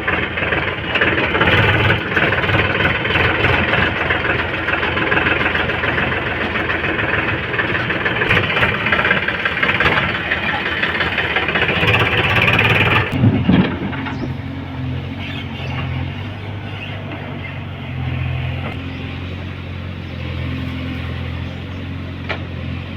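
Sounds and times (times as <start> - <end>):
diesel engine running under load: 0.0 - 22.9.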